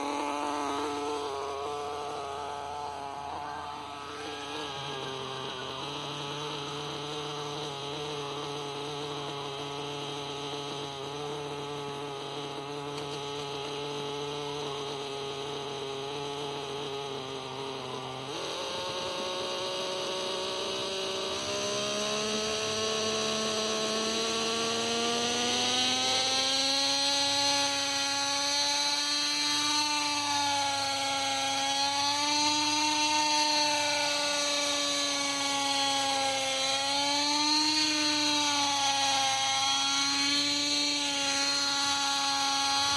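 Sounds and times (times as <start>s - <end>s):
model helicopter engine revving: 0.0s - 42.9s.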